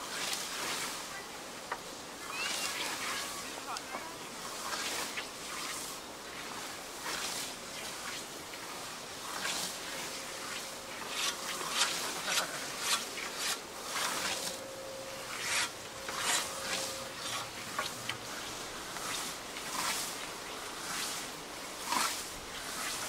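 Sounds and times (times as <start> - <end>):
scythes swishing through grass: 0.0 - 23.0.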